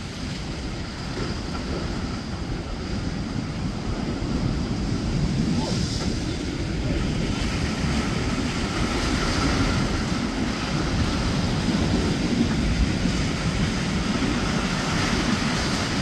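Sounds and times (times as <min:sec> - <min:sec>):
boat engines droning: 0:00.0 - 0:16.0
rushing wake and surf: 0:00.0 - 0:16.0
wind buffeting microphone: 0:00.0 - 0:16.0.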